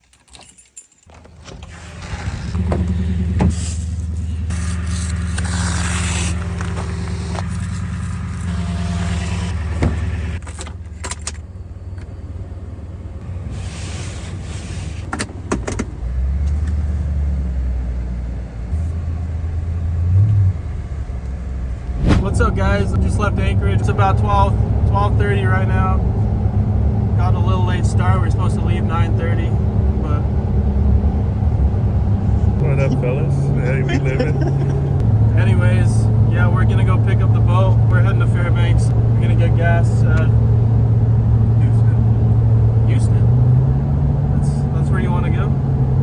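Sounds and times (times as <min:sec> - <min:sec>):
car engine running: 0:01.1 - 0:46.0.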